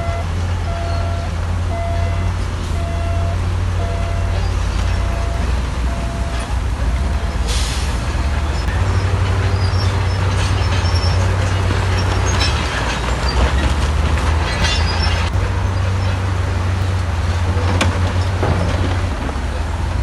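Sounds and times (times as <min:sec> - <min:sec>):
heavy diesel machinery running: 0:00.0 - 0:20.0
metallic clanking and squealing: 0:00.0 - 0:20.0.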